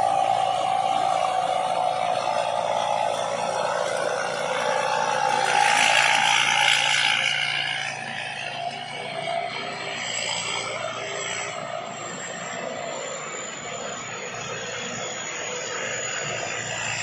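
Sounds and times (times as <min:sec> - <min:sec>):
combine harvester engine drone: 0:00.0 - 0:17.0
machine whine: 0:00.0 - 0:17.0.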